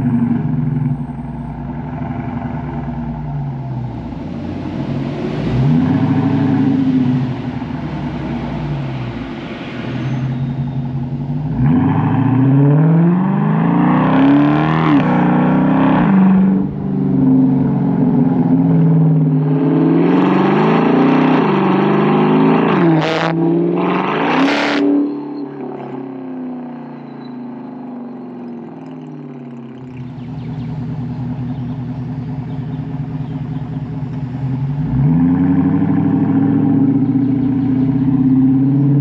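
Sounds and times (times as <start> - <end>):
car engine revving: 0.0 - 27.1, 28.1 - 39.0.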